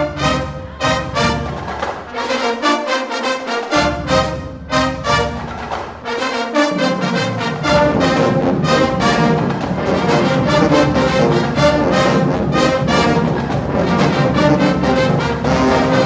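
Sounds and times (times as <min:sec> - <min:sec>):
steady drum beat: 0:00.0 - 0:02.6, 0:03.7 - 0:16.0
marching band brass: 0:00.0 - 0:16.0.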